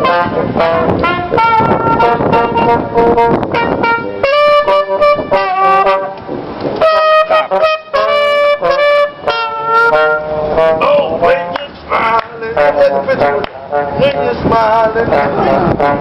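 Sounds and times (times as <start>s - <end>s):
trumpet playing a melody: 0.0s - 16.0s.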